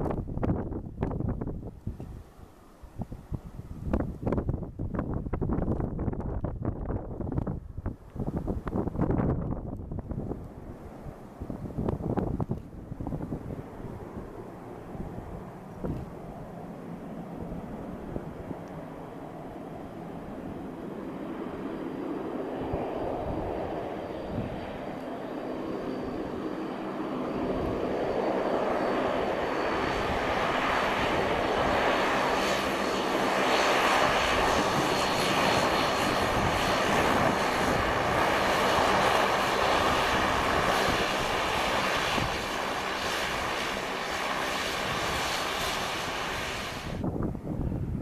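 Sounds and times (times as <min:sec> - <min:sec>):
airliner engines passing: 0:00.0 - 0:48.0.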